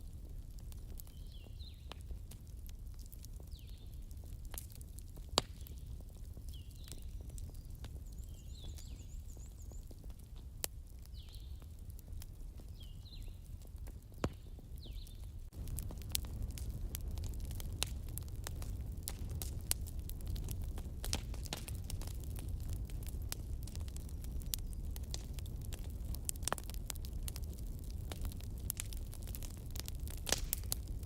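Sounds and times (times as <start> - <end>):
campfire crackling and popping: 0.0 - 31.0
low rumble of flames: 0.0 - 31.0.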